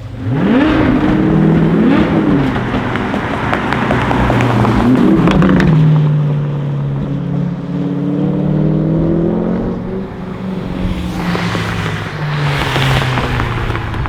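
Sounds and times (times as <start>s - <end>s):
exhaust crackles and pops: 0.0s - 7.6s, 9.0s - 14.0s
car engine accelerating: 0.0s - 14.0s.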